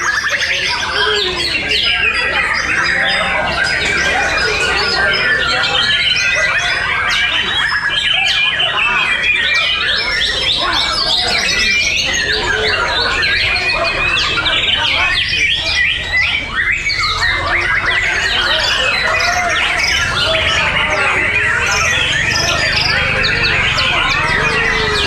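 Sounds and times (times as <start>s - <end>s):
birds singing whistled phrases: 0.0s - 25.0s.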